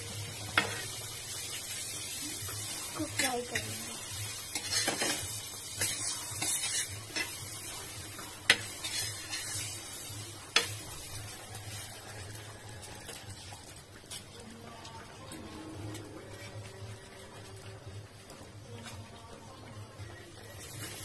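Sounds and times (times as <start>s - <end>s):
faint sizzle of frying: 0.0s - 21.0s.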